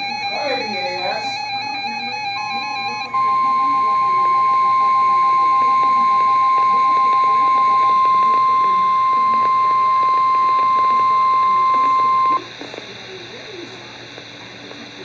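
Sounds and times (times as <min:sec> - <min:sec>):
steady high alert tone: 0:00.0 - 0:12.4
faint pulsing beep: 0:00.0 - 0:12.5.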